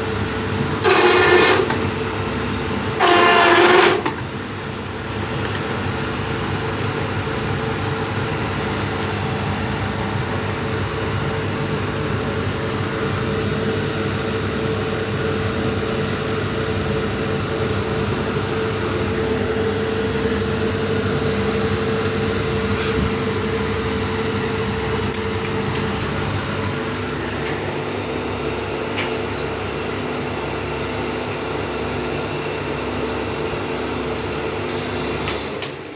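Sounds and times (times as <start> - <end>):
machine motor hum with fast rattle: 0.0 - 35.9.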